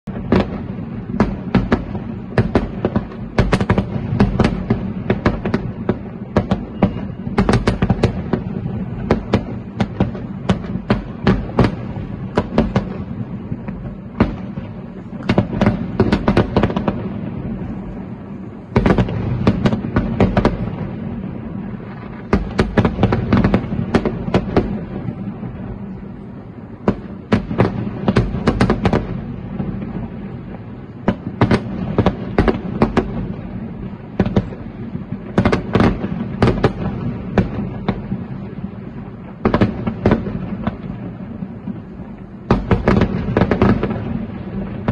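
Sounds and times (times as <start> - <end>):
continuous low rumble: 0.0 - 44.9
fireworks bursting with sharp bangs: 0.0 - 44.9.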